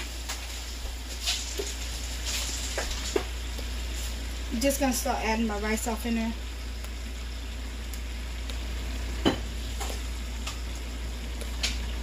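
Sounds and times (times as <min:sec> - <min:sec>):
rice sizzling in a skillet: 0:00.0 - 0:12.0.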